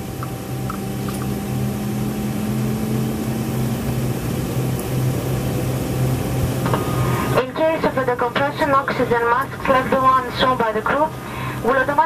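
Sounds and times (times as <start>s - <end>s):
cabin ventilation: 0.0s - 12.0s
jet engines rushing: 0.0s - 12.0s
low droning hums: 0.0s - 12.0s.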